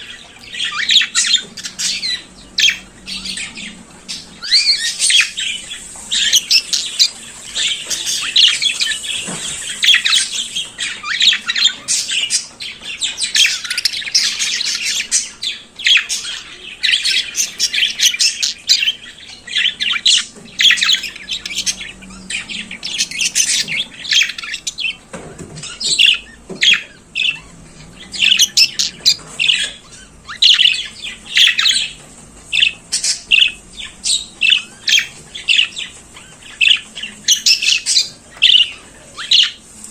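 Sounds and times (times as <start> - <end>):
budgerigar warbling and chirping: 0.0 - 39.8.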